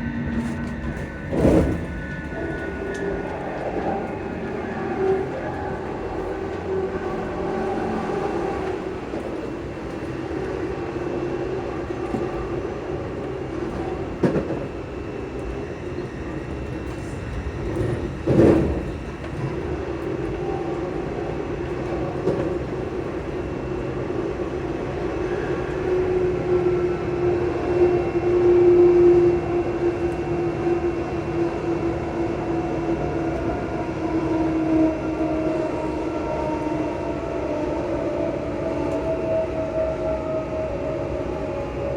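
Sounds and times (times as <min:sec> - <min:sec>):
train traction motors humming: 0:00.0 - 0:41.9
wheels rumbling on rails: 0:00.0 - 0:41.9.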